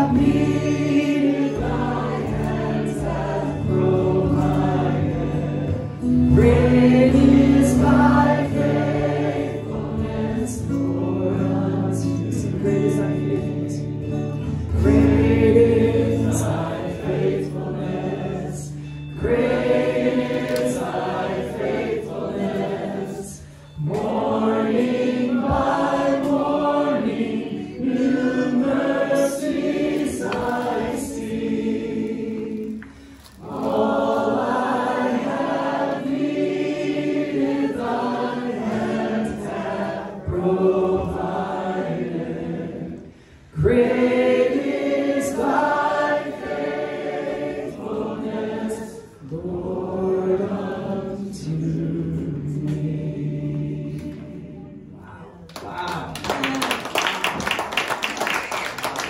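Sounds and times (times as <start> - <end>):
congregation singing a hymn: 0.0 - 55.2, 56.7 - 59.0.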